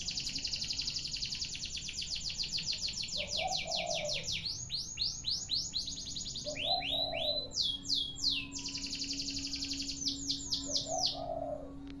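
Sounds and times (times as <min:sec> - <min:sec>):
canary singing trills: 0:00.0 - 0:12.0
faint steady hum: 0:00.0 - 0:12.0.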